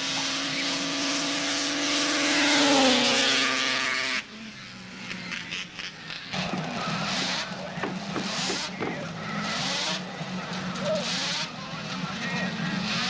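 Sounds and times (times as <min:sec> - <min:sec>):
snowmobile engine at full throttle: 0:00.0 - 0:13.0.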